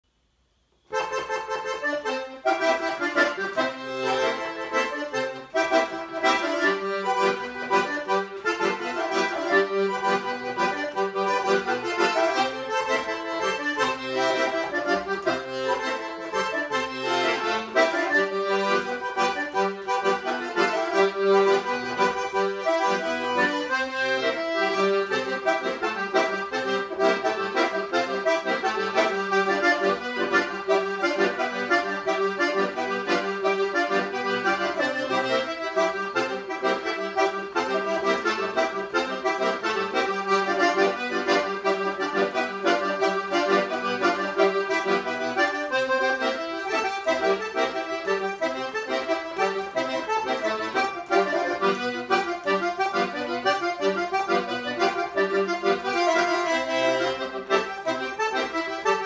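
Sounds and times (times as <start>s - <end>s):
piano accordion dance tune: 0.7s - 59.0s.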